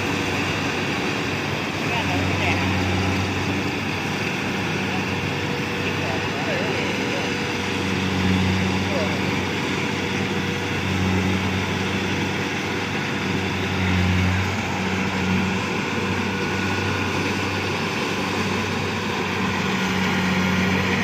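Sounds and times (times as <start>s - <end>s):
combine harvester engine running: 0.0s - 21.0s.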